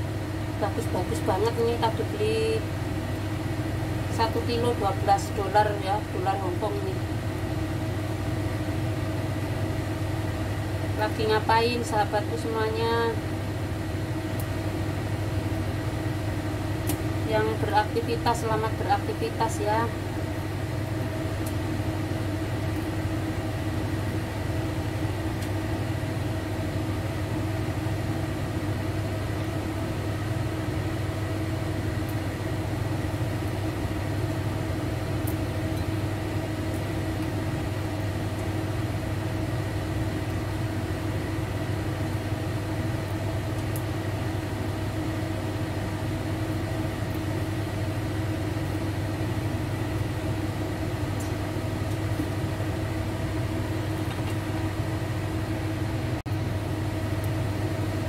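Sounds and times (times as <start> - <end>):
range hood fan humming: 0.0 - 58.0.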